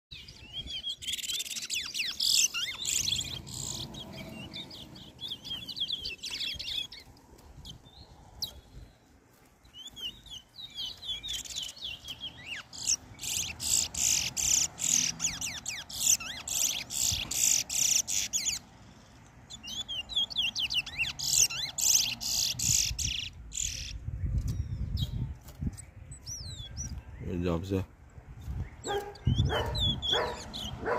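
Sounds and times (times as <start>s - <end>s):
finch chattering song: 0.1s - 9.0s, 9.7s - 30.9s.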